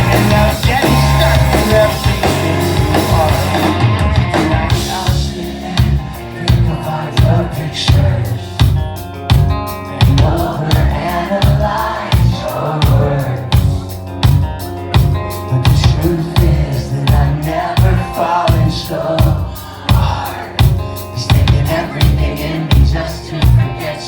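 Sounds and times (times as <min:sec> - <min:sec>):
person singing: 0:00.0 - 0:08.7, 0:09.7 - 0:14.0, 0:15.6 - 0:24.0
drum kit beat: 0:00.0 - 0:24.0
guitars: 0:00.0 - 0:24.0.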